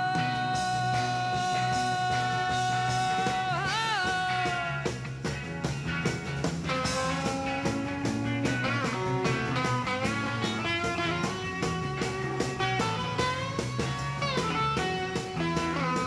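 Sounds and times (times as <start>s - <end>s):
electric lead guitar: 0.0s - 16.0s
rock band playing live: 0.0s - 16.0s.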